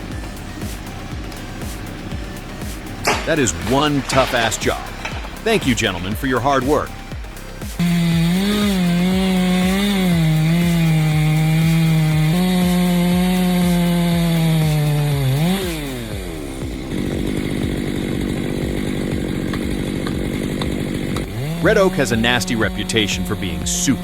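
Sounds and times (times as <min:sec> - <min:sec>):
chainsaw running at high revs: 0:00.0 - 0:24.0.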